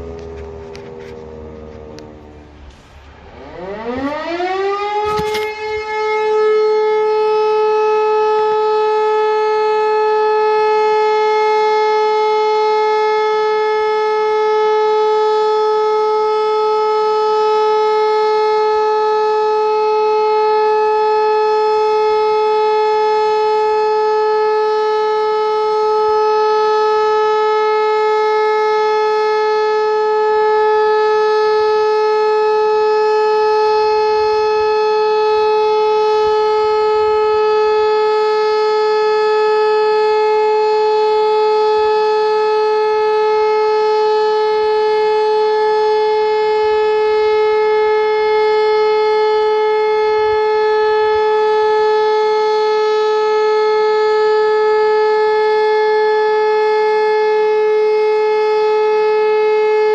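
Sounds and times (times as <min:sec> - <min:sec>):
warning siren steady tone: 0:00.0 - 0:59.9.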